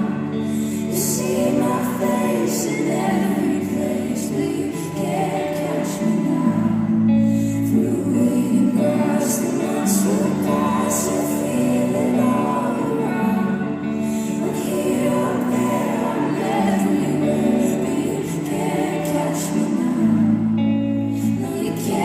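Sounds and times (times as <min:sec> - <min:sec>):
woman singing lead vocals: 0:00.0 - 0:22.0
women singing backing harmonies: 0:00.0 - 0:22.0.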